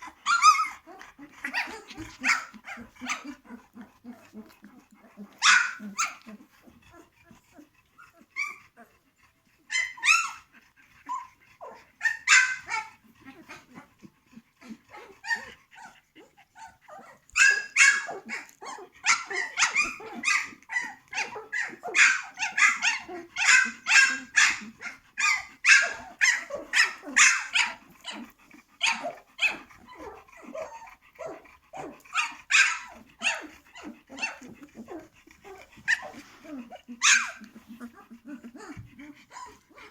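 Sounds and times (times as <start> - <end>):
puppies yelping and squealing: 0.0 - 9.0, 9.6 - 39.9.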